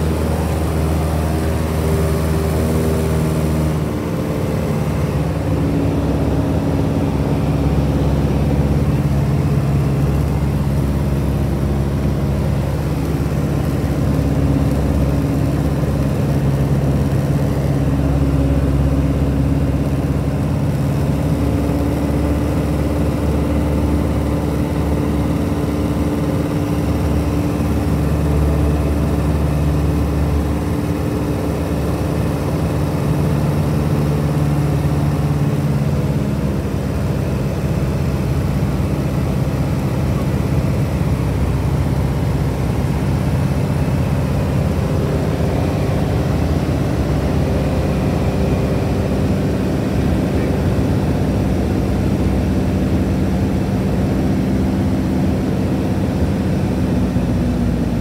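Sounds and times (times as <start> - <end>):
airplane engine droning in cabin: 0.0 - 58.0.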